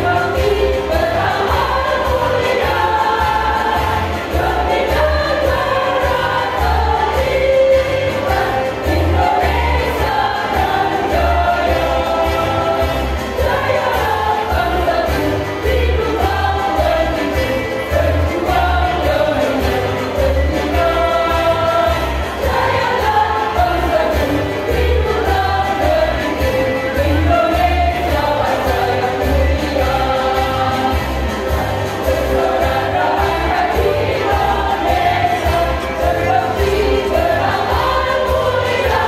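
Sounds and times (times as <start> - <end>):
women's choir singing: 0.0 - 39.0.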